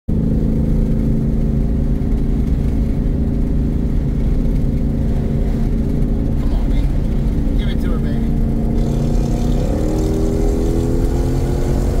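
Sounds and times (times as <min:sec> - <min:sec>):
car engine drone: 0:00.1 - 0:12.0
low road rumble: 0:00.1 - 0:12.0.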